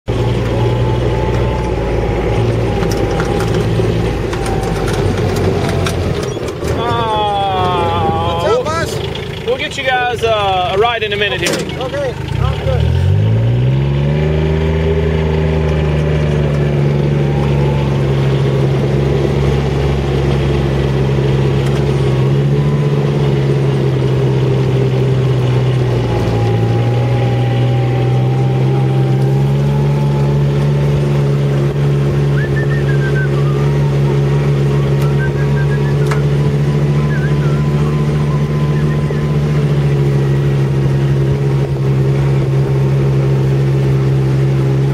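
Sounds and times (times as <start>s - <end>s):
vehicle engine under load: 0.0s - 44.9s.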